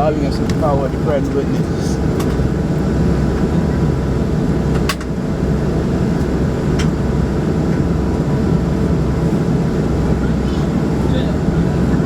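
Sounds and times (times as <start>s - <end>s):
turboprop engines droning: 0.0s - 12.0s.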